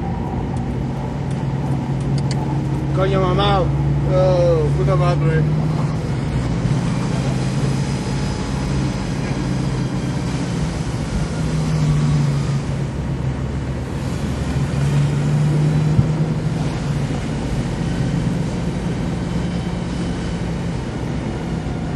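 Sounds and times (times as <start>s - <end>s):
car engine droning: 0.0s - 21.9s.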